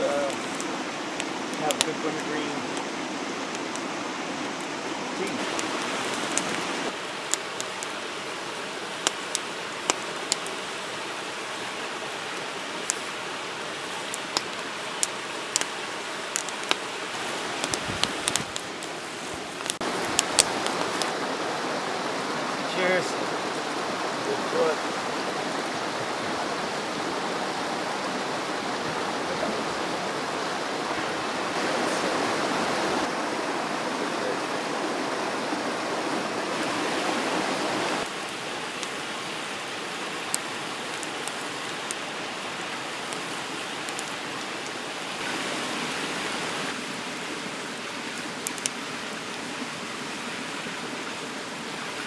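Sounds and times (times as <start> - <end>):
campfire crackling and popping: 0.0 - 52.0
fire hissing: 0.0 - 52.0.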